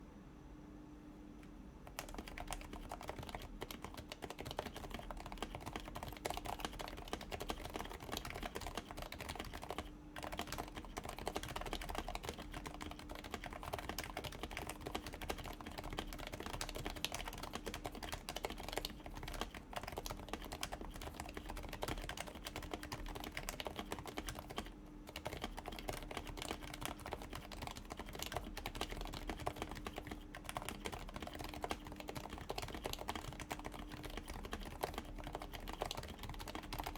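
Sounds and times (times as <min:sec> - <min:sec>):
fast typing on keyboard: 0:01.9 - 0:36.9.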